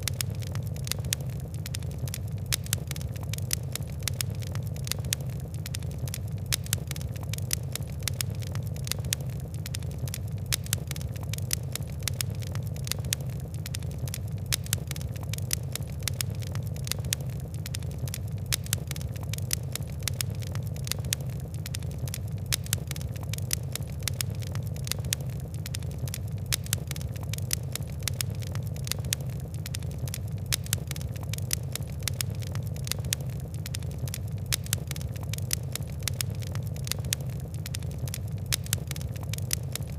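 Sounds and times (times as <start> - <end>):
fire crackling: 0.0 - 39.9
low fire rumble: 0.0 - 39.9.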